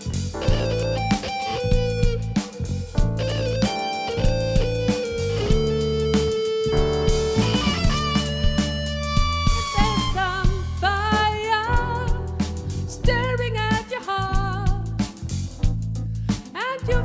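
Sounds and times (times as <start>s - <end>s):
live band playing soul-pop: 0.0s - 17.0s.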